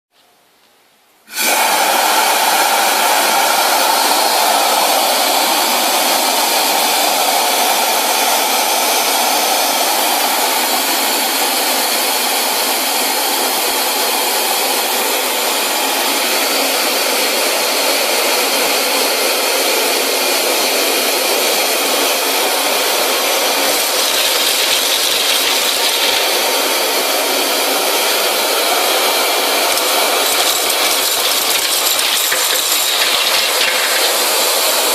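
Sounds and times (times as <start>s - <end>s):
industrial vacuum cleaner running: 1.3s - 34.9s.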